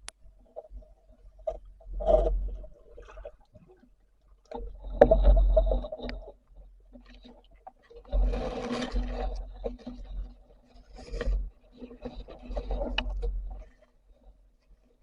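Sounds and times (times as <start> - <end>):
water sloshing and bubbling: 0.0 - 15.0.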